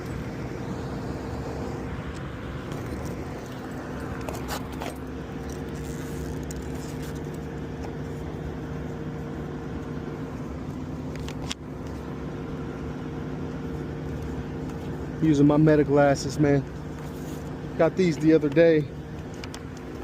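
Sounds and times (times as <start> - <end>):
hvac unit humming: 0.0 - 20.0.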